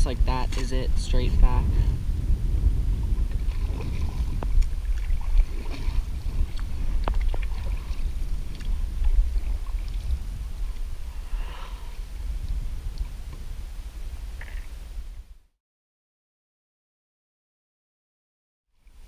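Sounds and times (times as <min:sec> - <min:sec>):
faint water sounds: 0:00.0 - 0:15.4, 0:18.8 - 0:19.0
wind buffeting microphone: 0:00.0 - 0:15.4.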